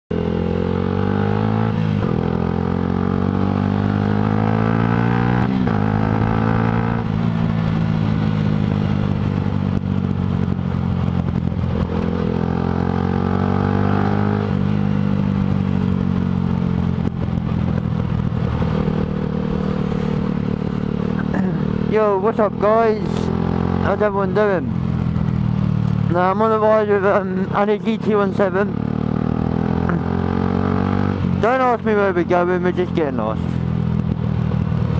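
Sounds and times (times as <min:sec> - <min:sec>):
motorcycle engine revving through gears: 0:00.1 - 0:34.9.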